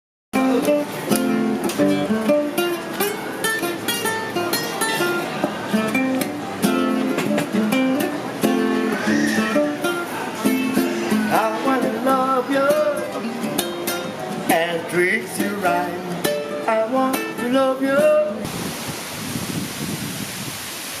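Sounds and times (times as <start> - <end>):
strummed ukulele or guitar: 0.4 - 18.5.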